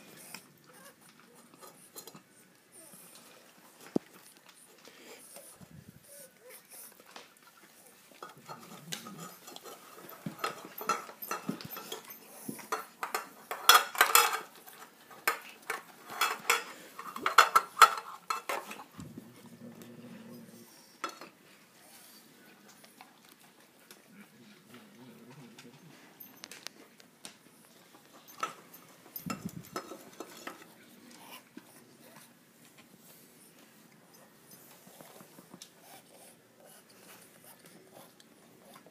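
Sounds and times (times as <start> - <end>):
cat eating from bowl: 6.9 - 38.9.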